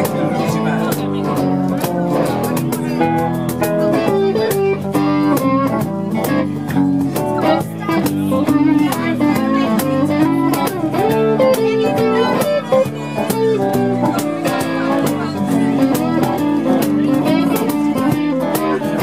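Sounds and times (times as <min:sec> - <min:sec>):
blues band playing: 0:00.0 - 0:19.0
electric guitar bending notes: 0:00.0 - 0:19.0.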